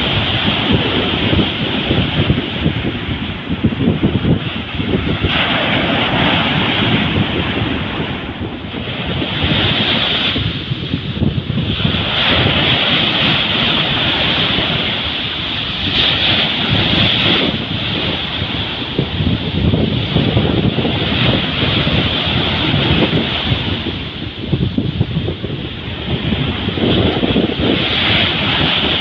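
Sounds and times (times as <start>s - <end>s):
sea waves breaking on beach: 0.0s - 29.0s
wind buffeting microphone: 0.0s - 29.0s.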